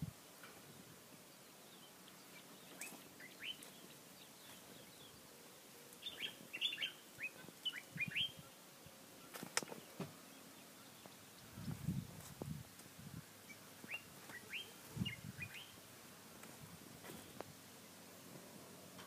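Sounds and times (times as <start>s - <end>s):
birds chirping: 0.4s - 12.0s, 12.7s - 18.3s.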